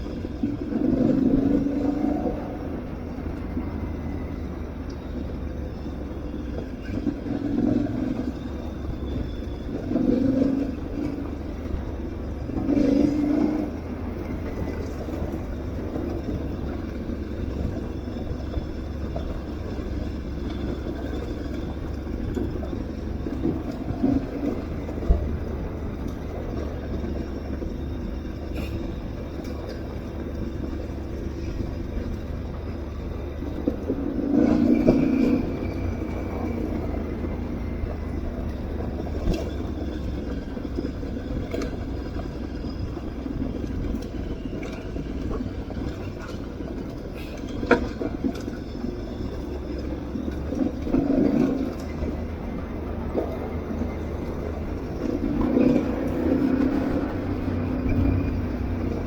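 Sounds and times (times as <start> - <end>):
low rumble of wind: 0.0 - 59.0.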